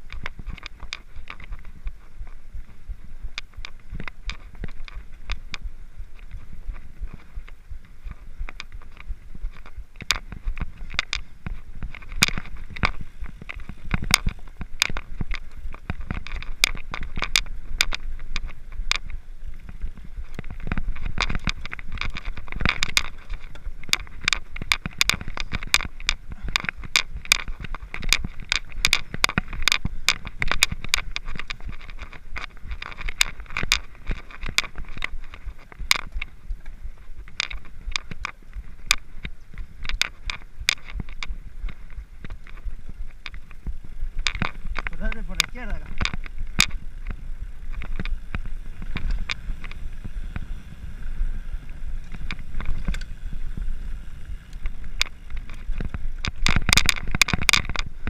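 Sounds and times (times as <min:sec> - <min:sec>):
clicks and rattles: 0:00.0 - 0:50.6, 0:51.6 - 0:58.0
bike tyres crunching on gravel: 0:00.0 - 0:58.0.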